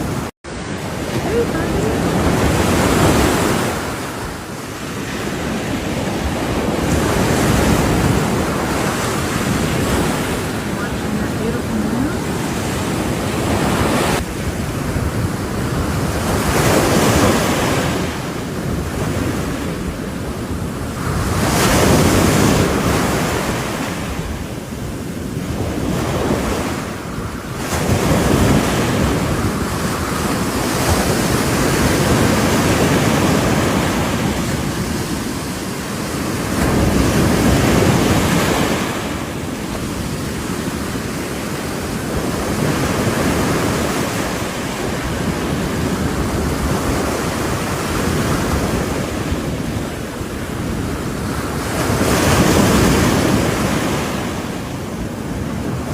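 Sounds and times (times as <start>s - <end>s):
ocean waves breaking: 0.0s - 55.9s
wind buffeting microphone: 0.0s - 55.9s.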